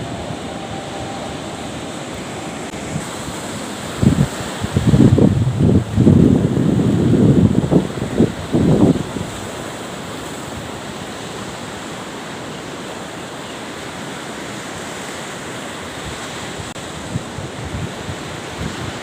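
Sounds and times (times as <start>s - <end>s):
sea surf washing: 0.0s - 19.0s
wind: 0.0s - 19.0s.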